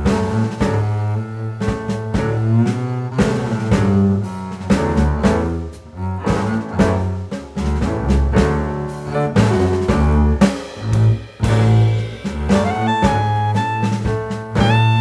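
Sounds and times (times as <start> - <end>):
instrumental music with bass and strings: 0.0 - 15.0.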